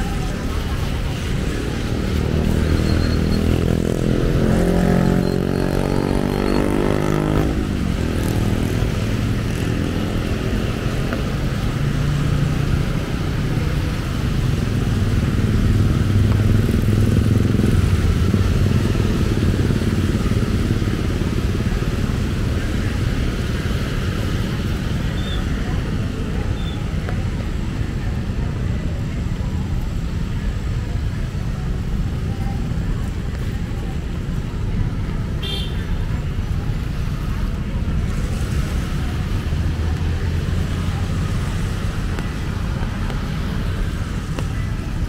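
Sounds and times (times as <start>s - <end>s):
traffic on wet road: 0.0s - 45.0s.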